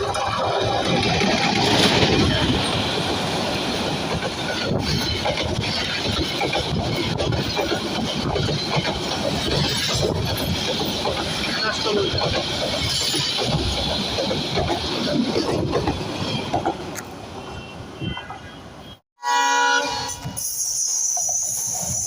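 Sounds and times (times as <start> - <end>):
train wheels rumbling on rails: 0.0 - 18.5.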